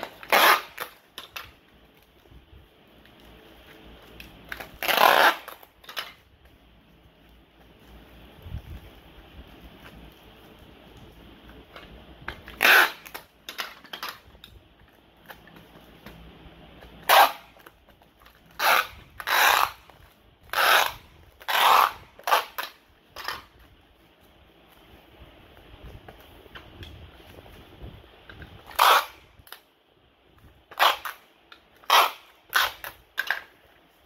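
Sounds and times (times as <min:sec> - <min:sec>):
packing tape pulled off roll: 0:00.0 - 0:34.0.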